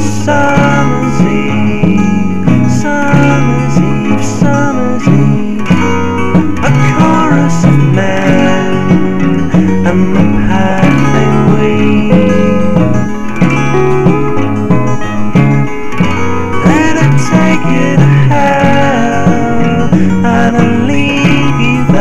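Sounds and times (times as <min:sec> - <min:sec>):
acoustic guitars picking: 0:00.0 - 0:22.0
bass guitar line: 0:00.0 - 0:22.0.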